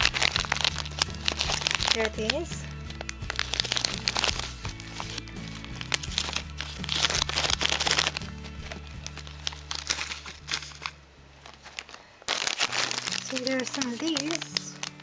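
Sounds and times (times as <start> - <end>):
background music: 0.0 - 15.0
plastic wrappers crinkling: 0.0 - 15.0.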